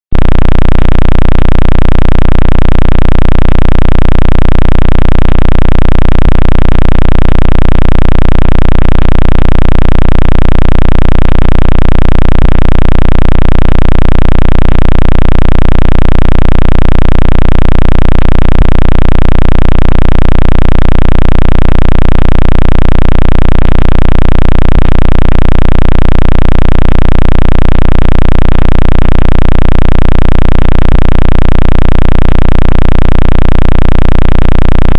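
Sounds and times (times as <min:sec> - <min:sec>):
pulsing deep electronic hum: 0:00.1 - 0:34.9.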